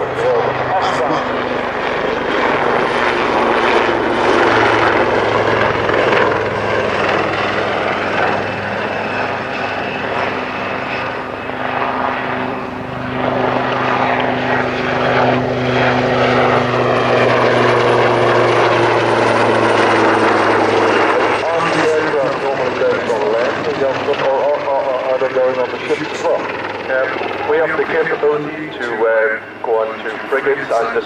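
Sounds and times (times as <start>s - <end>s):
helicopter rotor thrum: 0.0s - 31.0s.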